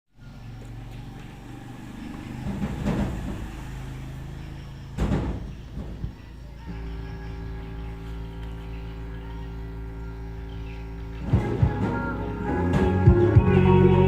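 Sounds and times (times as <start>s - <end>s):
vehicle engine running: 0.1s - 14.0s.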